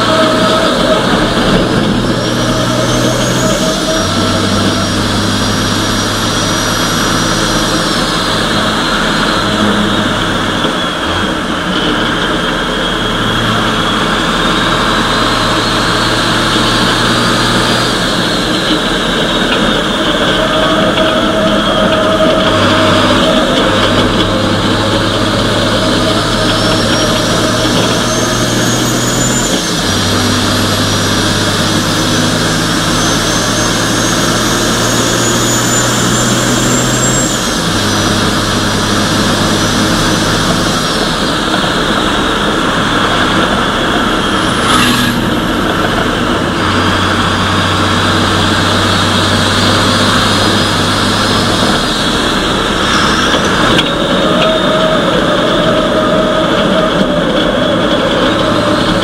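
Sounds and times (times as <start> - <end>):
diesel engine pulling hard: 0.0 - 59.0
high whine: 0.0 - 59.0.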